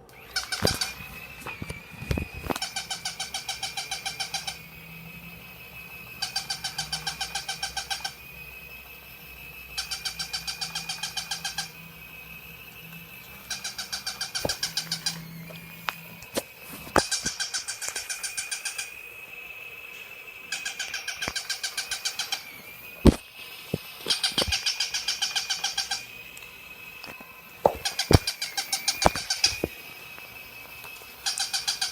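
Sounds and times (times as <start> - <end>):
faint motor hum: 0.0 - 31.9
toy dog fast chirping pulses: 0.1 - 31.9
steady high electronic tone: 0.5 - 31.9.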